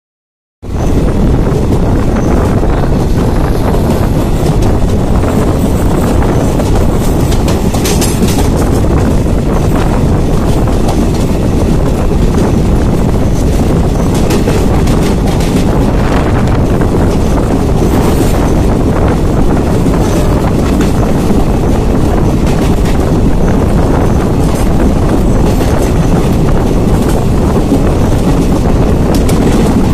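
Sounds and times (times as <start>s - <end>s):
train clatter: 0.6s - 29.9s
train wheels rumbling on rails: 0.6s - 29.9s.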